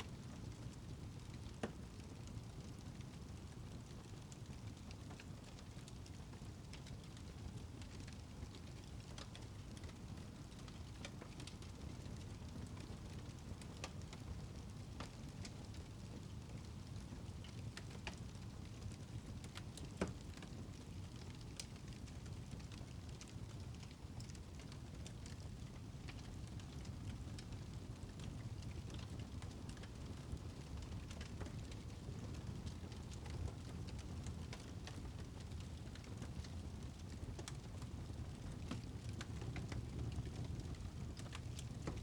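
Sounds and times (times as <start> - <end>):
low fire rumble: 0.0 - 42.0
wood fire crackling and popping: 0.1 - 42.0.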